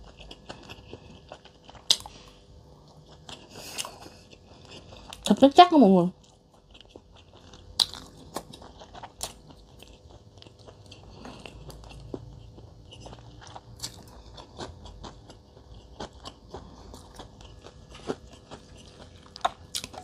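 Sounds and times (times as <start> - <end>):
soft chewing crunches: 0.0 - 20.0.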